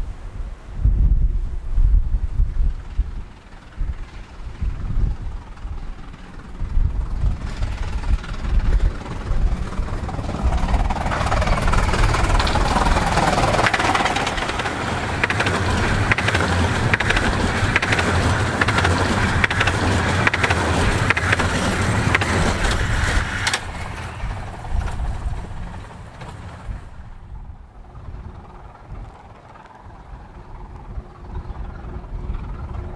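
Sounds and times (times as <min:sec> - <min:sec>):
train rumble: 0:00.0 - 0:32.9
wheels clattering over rails: 0:02.7 - 0:32.9.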